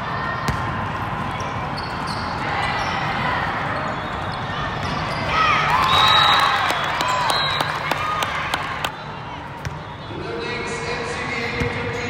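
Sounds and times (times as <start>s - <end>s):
echoing din of sports hall: 0.0s - 12.0s.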